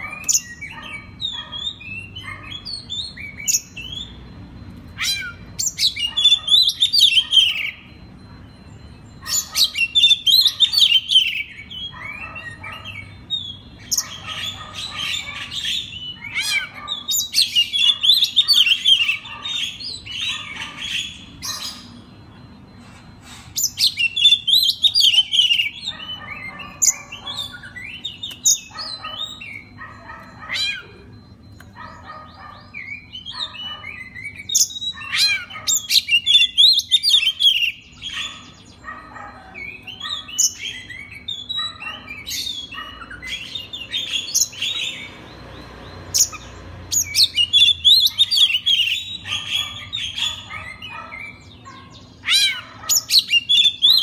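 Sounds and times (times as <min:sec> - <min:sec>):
magpie-robin singing: 0:00.0 - 0:54.0.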